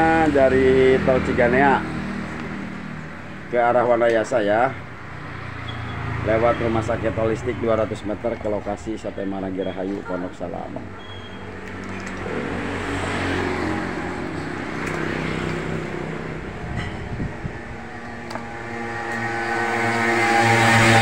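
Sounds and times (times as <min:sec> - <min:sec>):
vehicles passing on road: 0:00.0 - 0:21.0.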